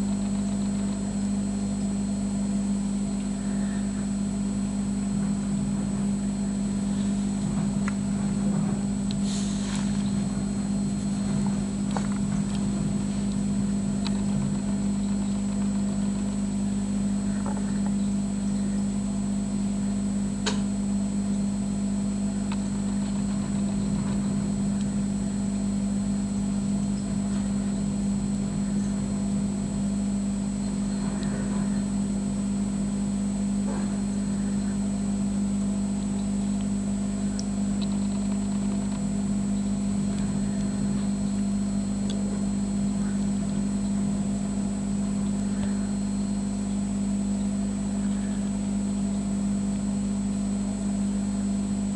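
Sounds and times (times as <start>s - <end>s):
aquarium pump humming: 0.0s - 51.9s.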